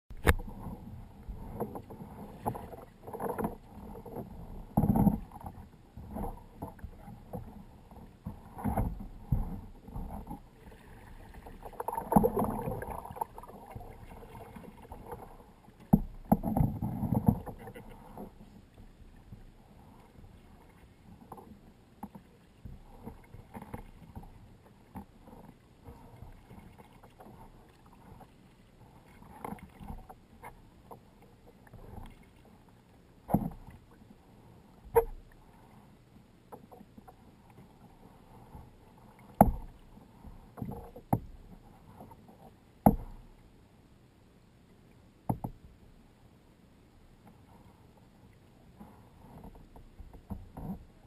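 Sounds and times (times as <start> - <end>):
paddle splashing in water: 0.1 - 43.4.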